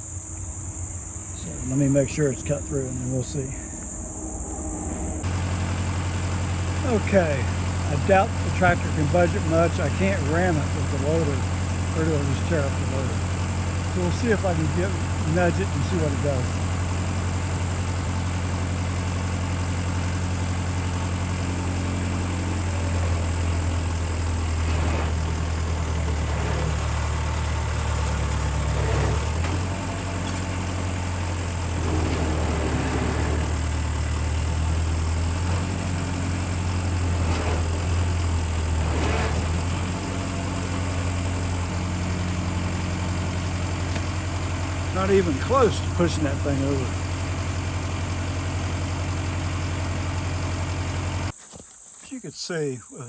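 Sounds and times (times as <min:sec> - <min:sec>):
tractor engine straining: 0:00.0 - 0:52.5.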